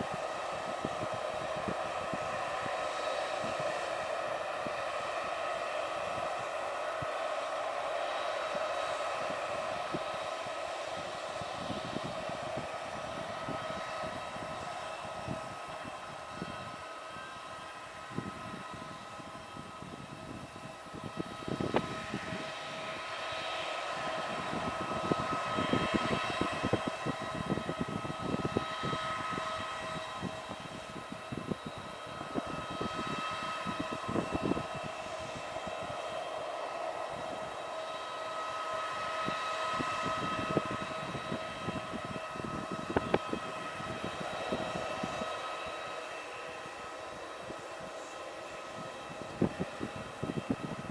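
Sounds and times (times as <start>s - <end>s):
aircraft engines whining: 0.0s - 50.9s.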